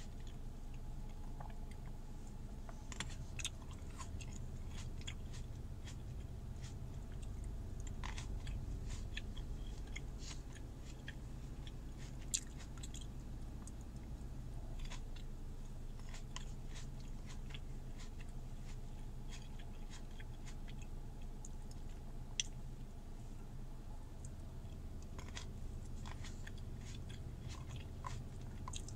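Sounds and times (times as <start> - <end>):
chewing grapes: 0.0 - 28.9
low steady hum: 0.0 - 28.9.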